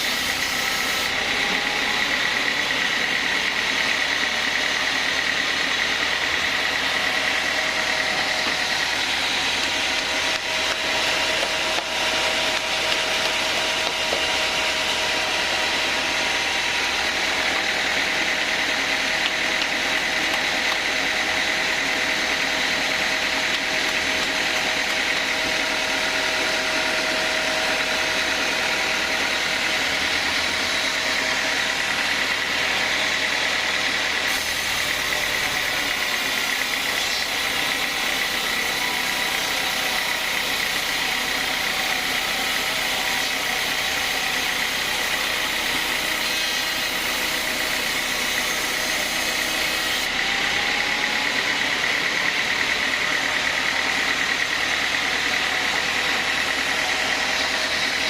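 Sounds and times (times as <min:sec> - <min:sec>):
band saw running: 0:00.0 - 0:58.0.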